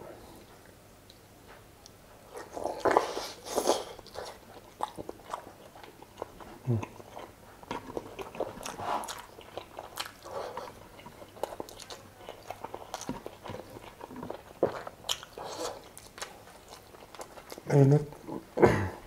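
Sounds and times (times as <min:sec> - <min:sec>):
person chewing with mouth smacks: 0:00.4 - 0:18.4.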